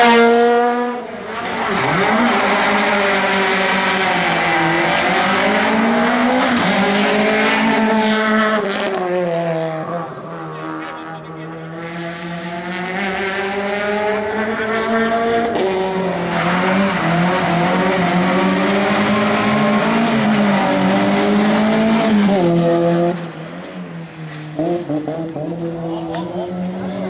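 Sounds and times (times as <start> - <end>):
rally car engines at full throttle: 0.0 - 27.0.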